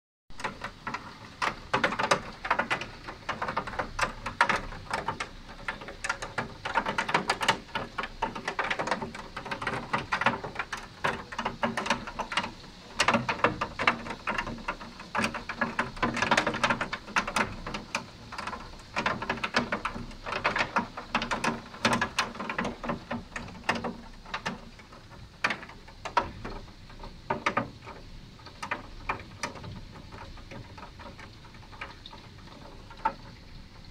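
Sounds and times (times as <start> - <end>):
hailstones pelting down: 0.3 - 33.9.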